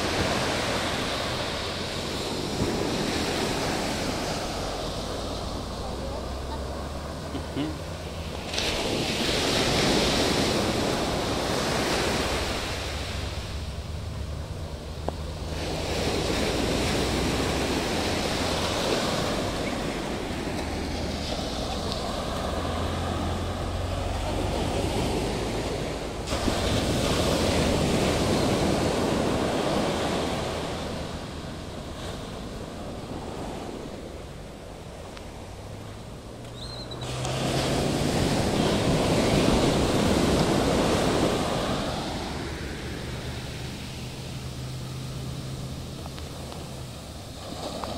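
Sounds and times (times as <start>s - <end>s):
surf breaking on a beach: 0.0s - 47.9s
wind rumbling on microphone: 0.0s - 47.9s.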